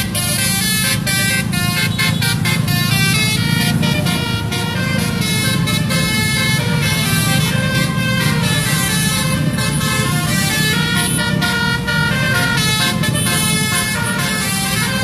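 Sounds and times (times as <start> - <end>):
bus engine running: 0.0 - 15.0
multi-tone bus horn tune: 0.0 - 15.0.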